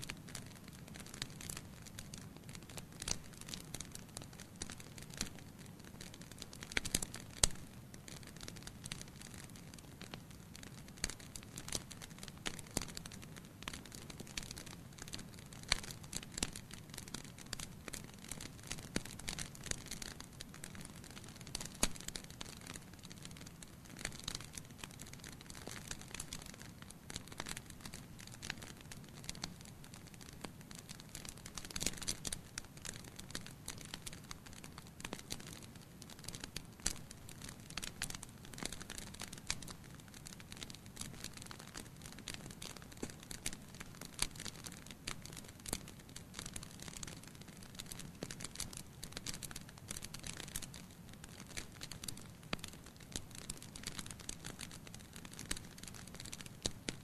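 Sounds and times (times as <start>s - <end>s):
logs crackling and popping: 0.0s - 57.0s
low rumble of flames: 0.6s - 56.8s.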